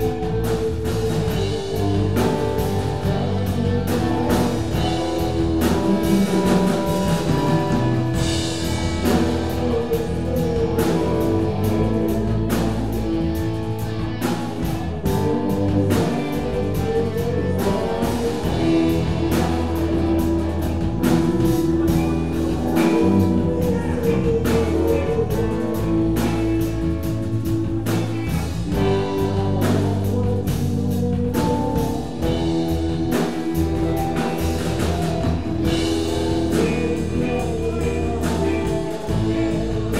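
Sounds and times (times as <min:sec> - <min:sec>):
live band jamming: 0:00.0 - 0:39.9.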